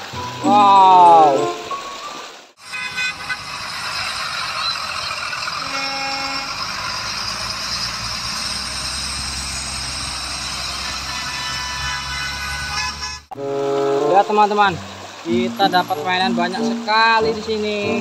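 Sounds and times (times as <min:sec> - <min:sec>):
bus engines: 0:00.0 - 0:18.0
tyres hissing on wet road: 0:00.0 - 0:18.0.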